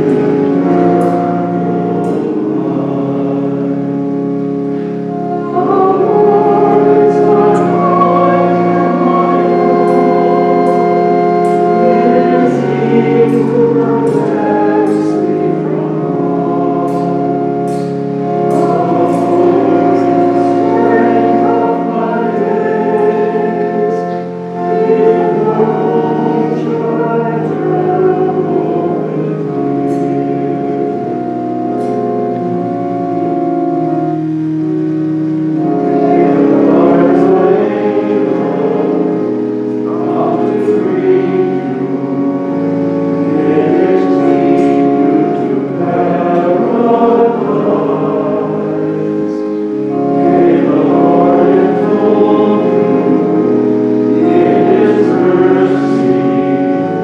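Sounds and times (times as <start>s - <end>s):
organ chords: 0.0s - 57.0s
person singing a hymn: 0.0s - 57.0s.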